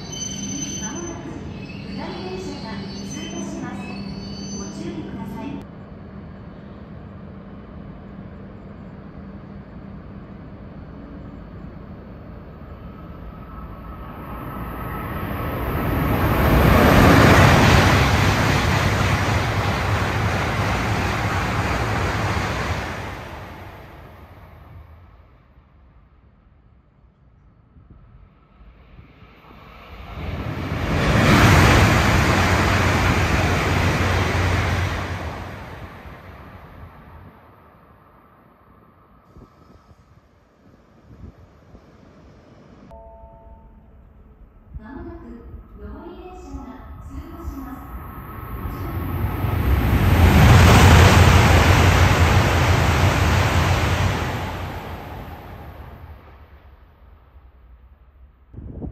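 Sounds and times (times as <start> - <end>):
high-speed train passing: 0.0 - 26.6, 27.7 - 43.0, 44.3 - 58.9.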